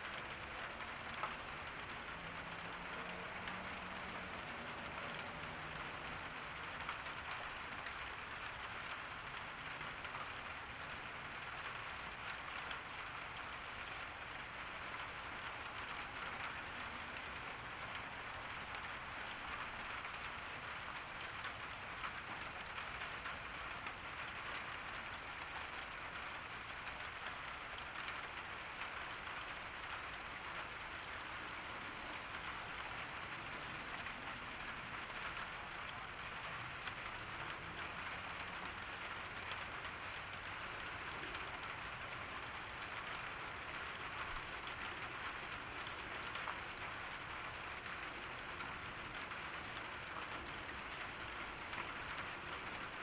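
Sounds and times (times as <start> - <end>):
rain falling on a garden: 0.0 - 53.0.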